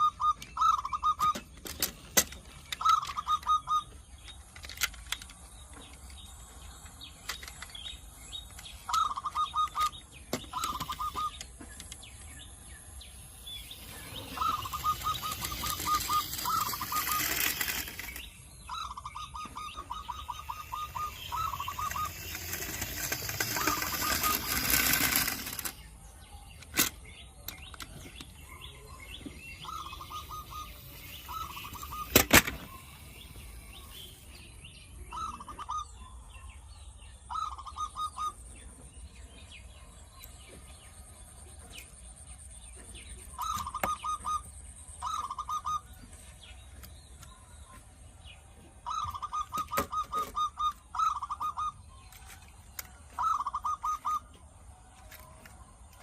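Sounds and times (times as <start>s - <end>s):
bird chirping rapidly: 0.0s - 39.6s, 41.8s - 54.6s.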